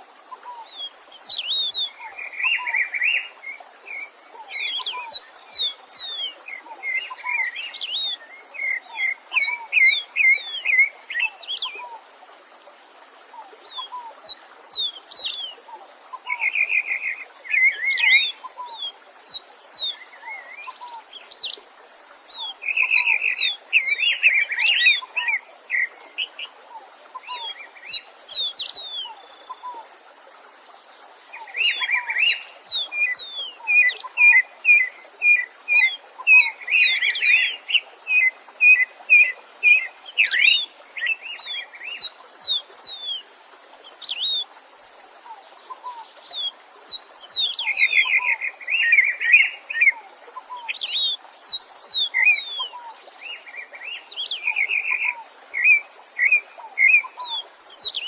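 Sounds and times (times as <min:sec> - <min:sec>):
songbirds singing: 0:00.0 - 0:58.0
stream running: 0:00.0 - 0:58.0.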